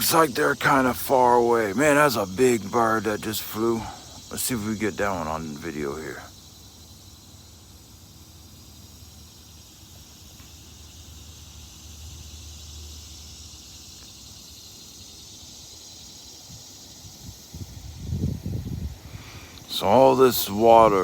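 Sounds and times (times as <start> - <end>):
insect chorus hiss: 0.0 - 21.0.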